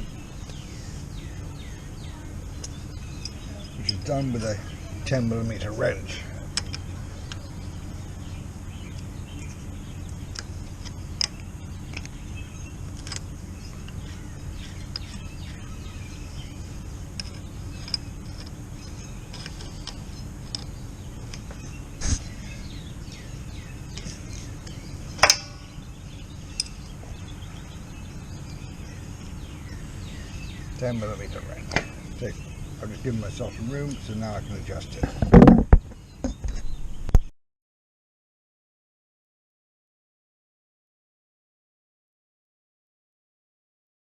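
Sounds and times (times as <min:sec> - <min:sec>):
steady background noise: 0:00.0 - 0:37.1.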